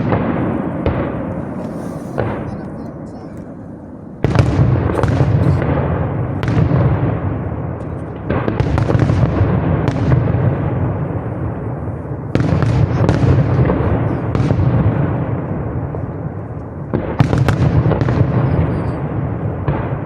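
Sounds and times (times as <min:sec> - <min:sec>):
echoing fireworks rumble: 0:00.0 - 0:20.0
fireworks bursting with bangs: 0:00.0 - 0:20.0.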